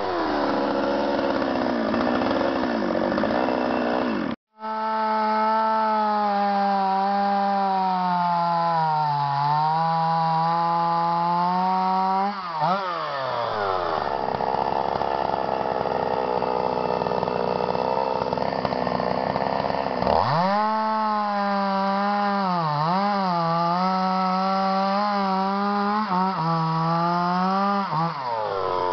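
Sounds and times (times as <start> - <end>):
chainsaw cutting log: 0.0 - 28.9.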